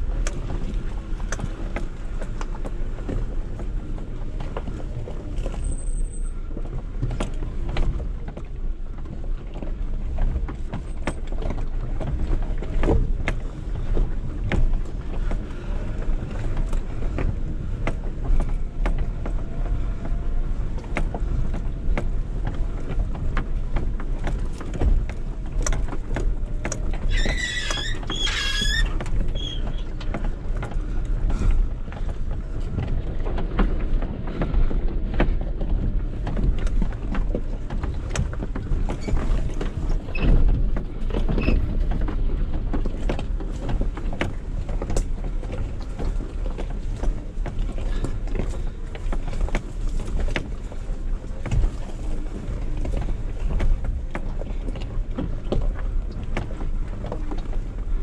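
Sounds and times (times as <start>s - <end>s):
body and suspension rattles: 0.0s - 58.0s
car engine and road rumble: 0.0s - 58.0s.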